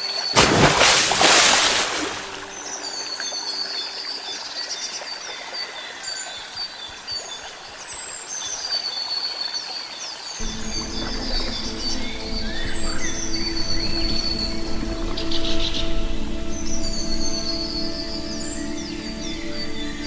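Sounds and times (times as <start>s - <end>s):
running stream: 0.0s - 20.0s
birds calling and trilling: 2.0s - 20.0s.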